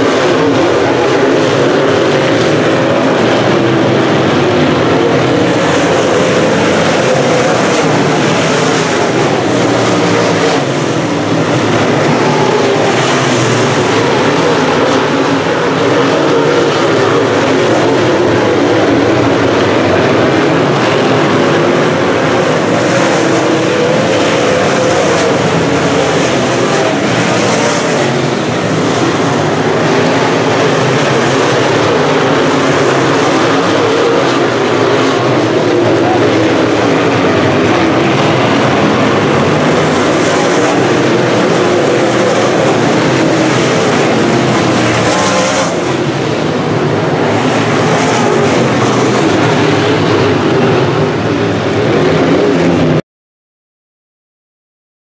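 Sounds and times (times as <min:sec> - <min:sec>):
race car engines droning: 0:00.0 - 0:53.0.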